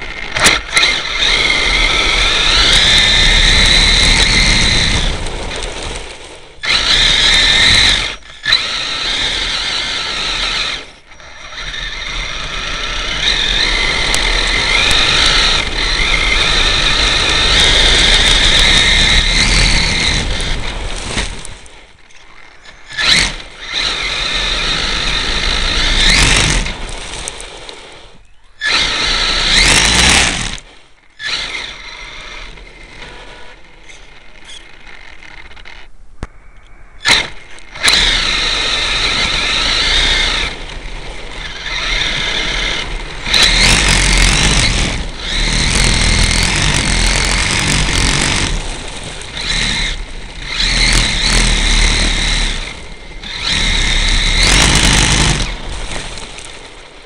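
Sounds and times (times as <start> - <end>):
electric motor whining: 0.0 - 35.9, 37.0 - 57.0
tyres rumbling on dirt: 0.0 - 36.0, 37.0 - 57.0.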